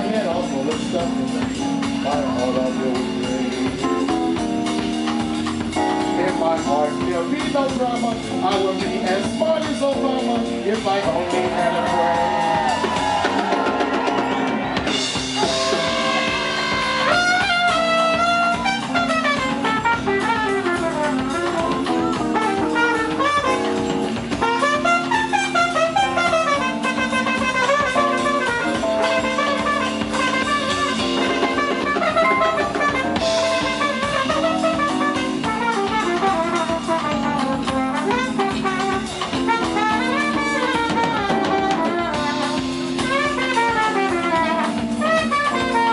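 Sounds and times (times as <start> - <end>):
jazz band playing: 0.0 - 45.9
trumpet melody: 0.0 - 45.9.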